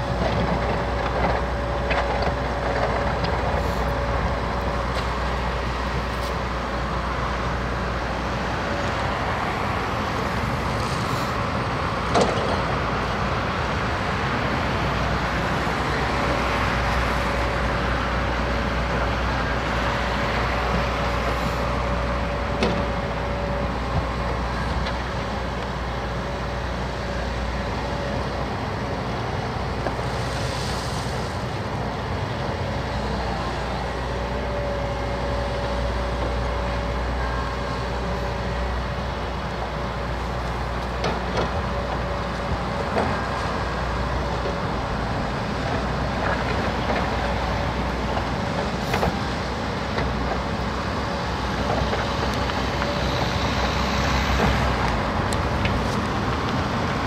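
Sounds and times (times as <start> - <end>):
heavy machinery engine rumble: 0.0 - 57.0.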